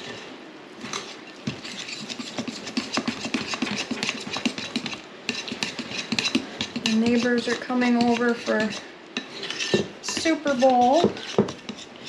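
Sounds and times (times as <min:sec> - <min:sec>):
utensil scraping mixing bowl: 0:00.0 - 0:12.0.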